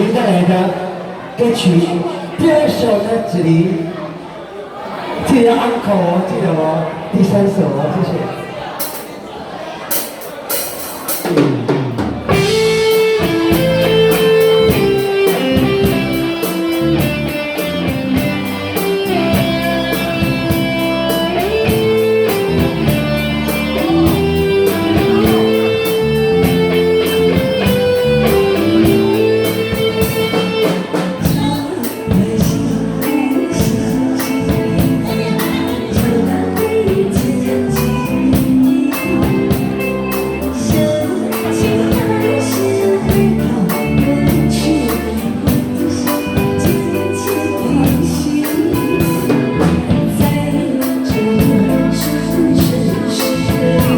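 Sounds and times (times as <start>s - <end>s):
instrumental pop ballad: 10.6s - 53.9s.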